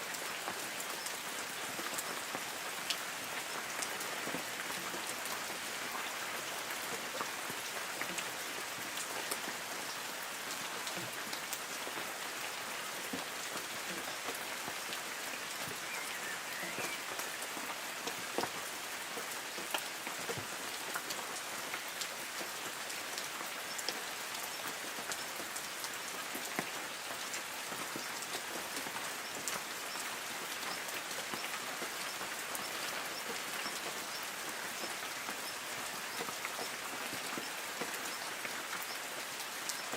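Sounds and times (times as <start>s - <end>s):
light rain on trees: 0.0s - 39.9s.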